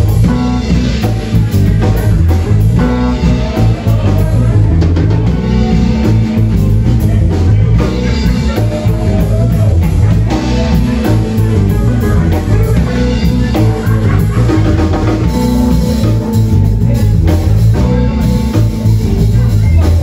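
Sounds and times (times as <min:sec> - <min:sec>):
drum kit: 0:00.0 - 0:20.0
electric bass: 0:00.0 - 0:20.0
electric guitar: 0:00.0 - 0:20.0
electric keyboard: 0:00.0 - 0:20.0.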